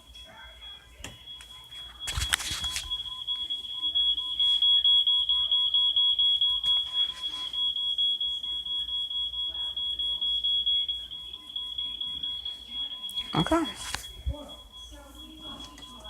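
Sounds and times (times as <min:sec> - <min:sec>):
smoke alarm tone fluttering: 0:00.0 - 0:16.0.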